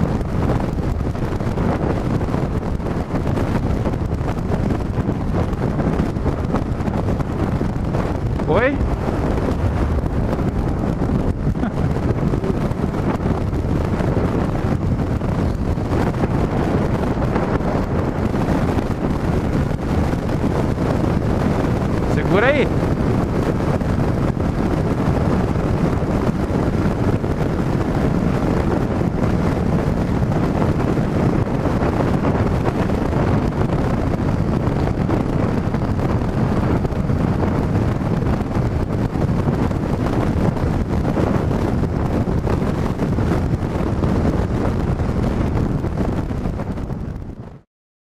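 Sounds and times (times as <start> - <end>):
wind buffeting microphone: 0.0 - 47.6
motorcycle engine and road noise: 0.0 - 47.7.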